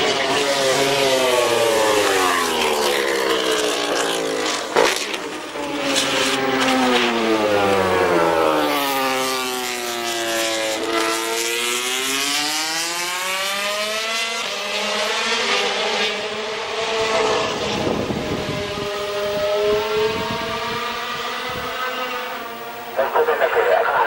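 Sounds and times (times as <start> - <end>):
racing motorcycle engine: 0.0 - 24.0.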